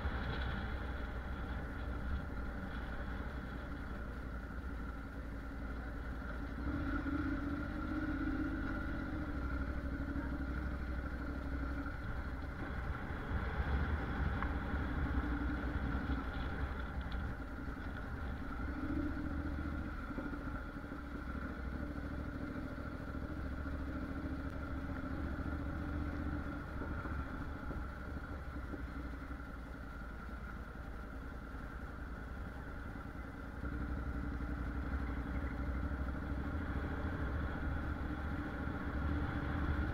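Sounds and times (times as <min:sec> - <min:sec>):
motorcycle engine running: 0:00.0 - 0:39.9
tyres rumbling over cobblestones: 0:00.0 - 0:39.9.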